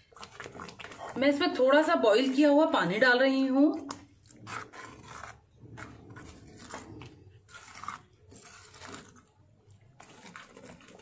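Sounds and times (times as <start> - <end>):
spatula scraping and squelching greens: 0.0 - 11.0.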